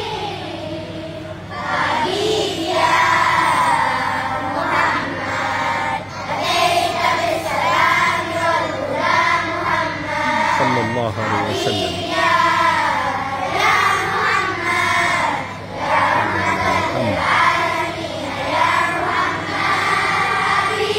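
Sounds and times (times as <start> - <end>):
children's choir singing: 0.0 - 20.9.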